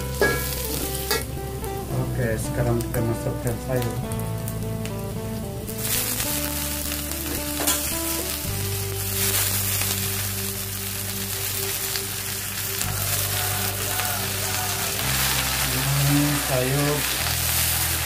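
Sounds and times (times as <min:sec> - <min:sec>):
greens sizzling in hot oil: 0:00.0 - 0:18.0.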